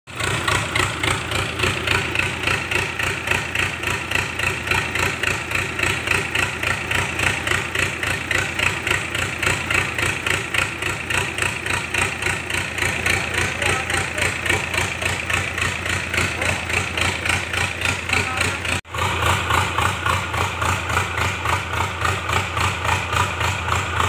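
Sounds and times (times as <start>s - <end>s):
diesel engine idling: 0.1s - 24.0s.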